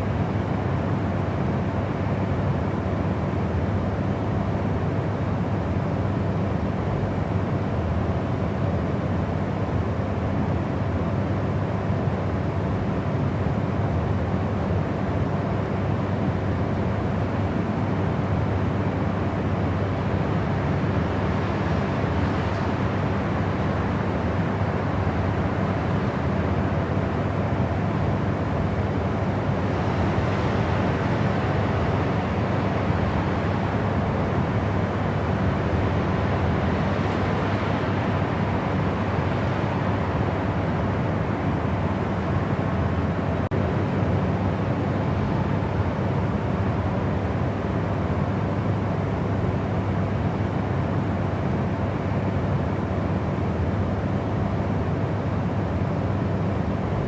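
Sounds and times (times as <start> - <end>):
deep rumbling white noise: 8.1 - 57.0.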